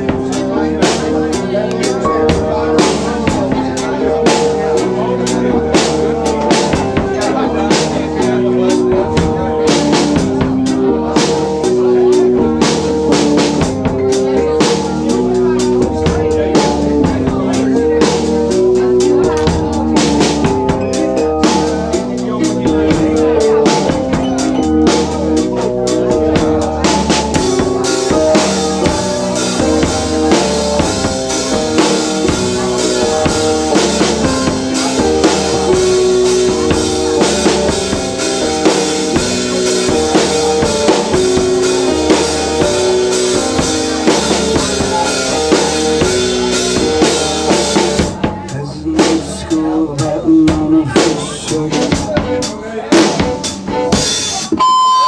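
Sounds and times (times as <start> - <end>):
drum kit beat: 0.0 - 55.0
keyboard chords: 0.0 - 55.0.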